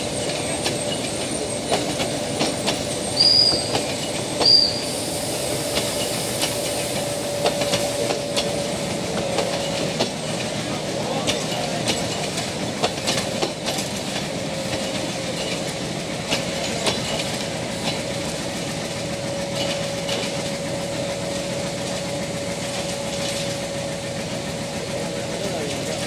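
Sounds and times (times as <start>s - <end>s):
train wheels clicking over rail joints: 0.0s - 26.0s.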